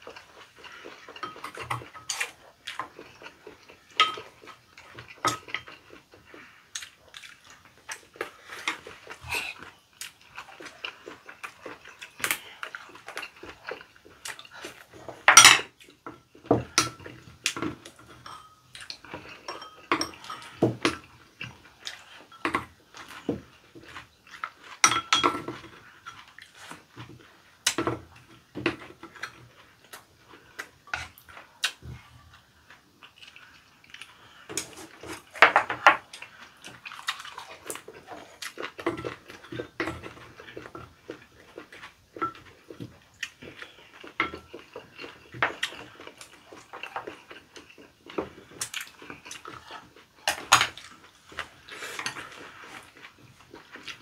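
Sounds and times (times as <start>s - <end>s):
chewing and smacking: 0.0s - 54.0s.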